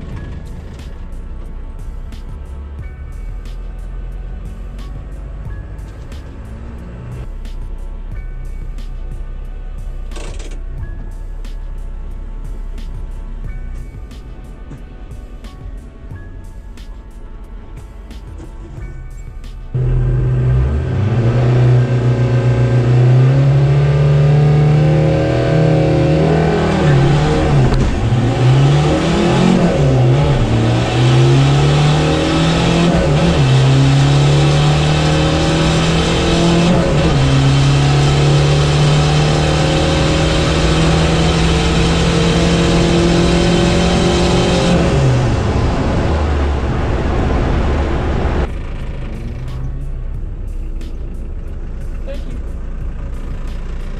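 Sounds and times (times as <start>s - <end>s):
diesel engine accelerating through gears: 0.0s - 53.9s.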